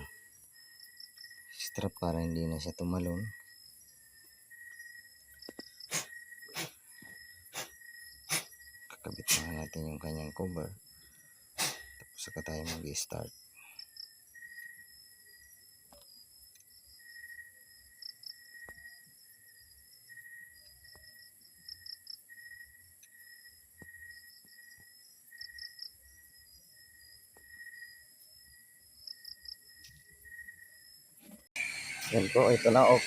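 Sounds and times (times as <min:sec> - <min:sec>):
insect chirping trill: 0:00.0 - 0:33.0.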